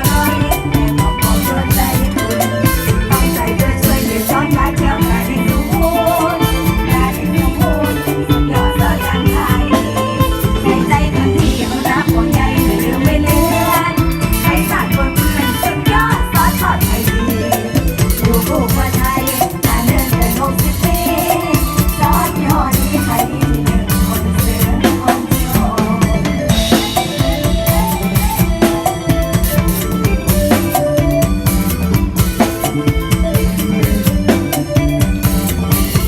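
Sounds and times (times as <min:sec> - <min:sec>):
person singing: 0:00.0 - 0:29.0
drums playing fast beat: 0:00.0 - 0:36.0
melodic instruments: 0:00.0 - 0:36.0.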